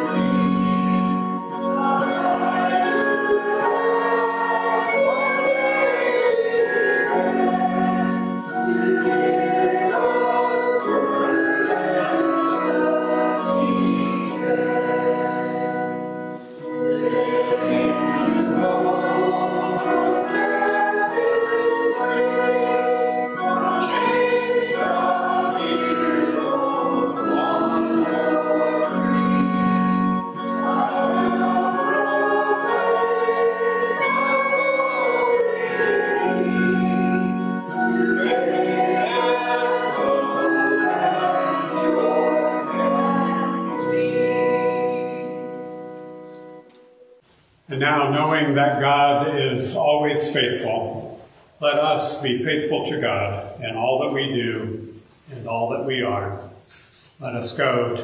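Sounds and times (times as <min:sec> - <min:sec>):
congregation singing a hymn: 0:00.0 - 0:47.1, 0:47.7 - 0:58.0
organ accompaniment: 0:00.0 - 0:58.0.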